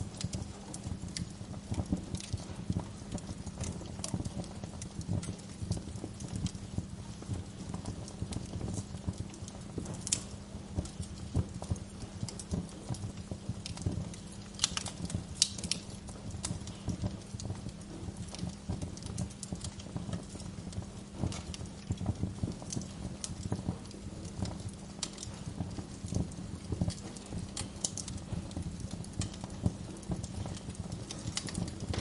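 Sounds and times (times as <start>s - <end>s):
fire pops and snaps: 0.0s - 32.0s
low fire rumble: 0.0s - 32.0s
wood fire crackling: 0.0s - 32.0s.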